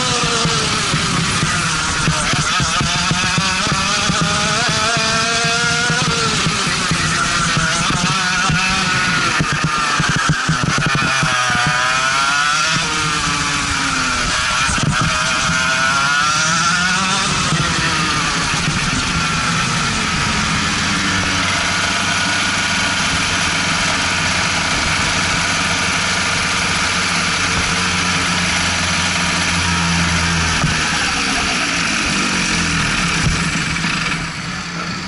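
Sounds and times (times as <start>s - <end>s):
kart engine at low revs: 0.0s - 35.0s
steady rushing noise: 0.0s - 35.0s.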